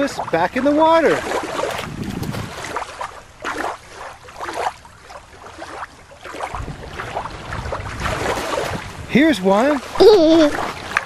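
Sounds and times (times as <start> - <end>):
water lapping at shore: 0.0 - 11.0.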